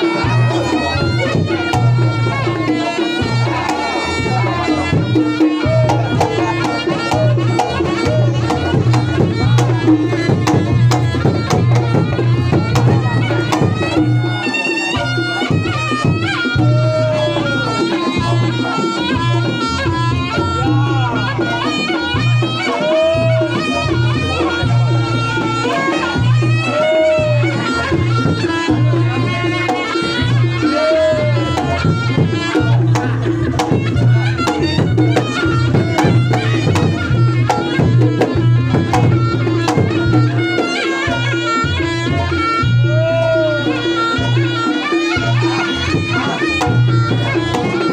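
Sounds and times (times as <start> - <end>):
drum beat: 0.0 - 47.9
gamelan music: 0.0 - 47.9
reedy wind instrument melody: 0.0 - 47.9.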